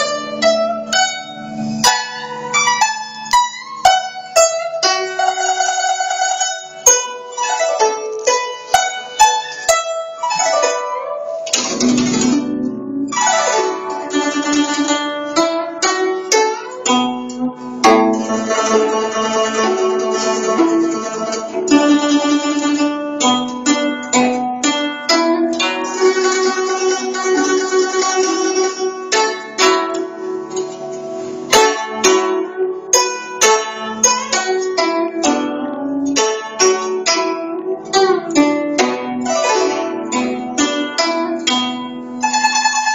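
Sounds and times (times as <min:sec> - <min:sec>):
plucked zither notes: 0:00.0 - 0:42.9.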